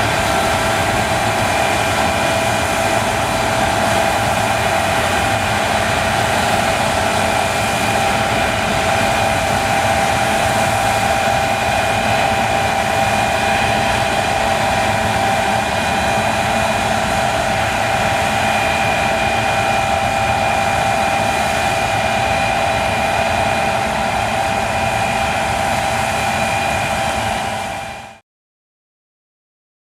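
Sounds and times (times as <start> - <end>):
combine harvester running: 0.0 - 28.2
constant machine whine: 0.0 - 28.2.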